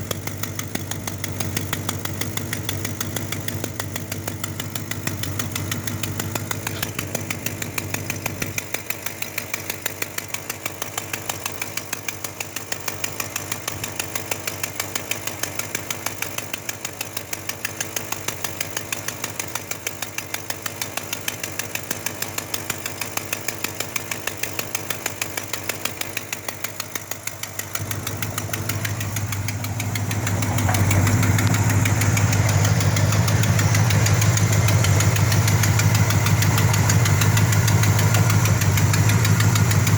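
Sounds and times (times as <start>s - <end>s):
engine idling with exhaust ticking: 0.0s - 39.9s.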